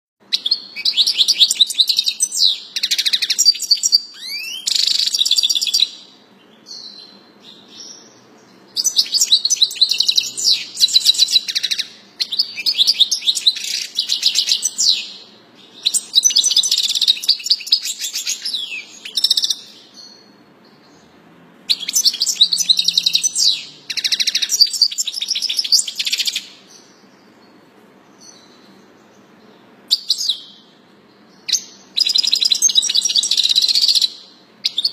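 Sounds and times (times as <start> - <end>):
finch singing trills: 0.3 - 34.9.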